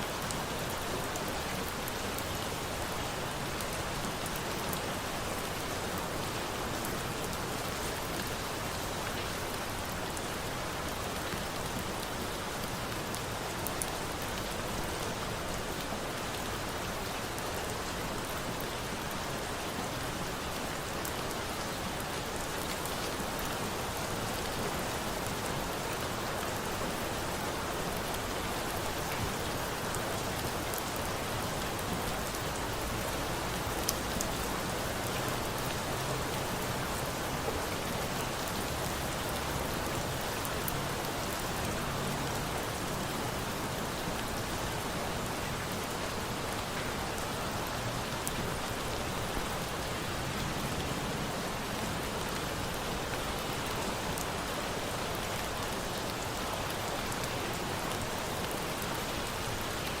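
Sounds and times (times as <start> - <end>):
rain falling on a surface: 0.0 - 60.0.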